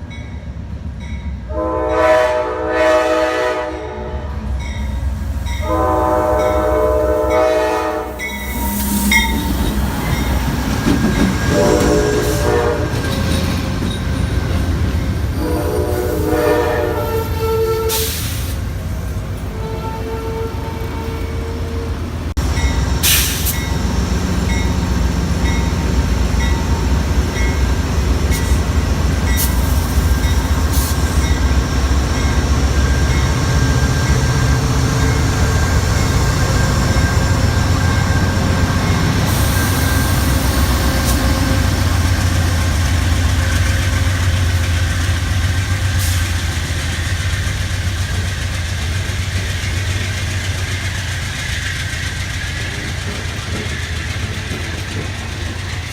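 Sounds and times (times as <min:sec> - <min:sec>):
train rumbling: 0:00.0 - 0:55.9.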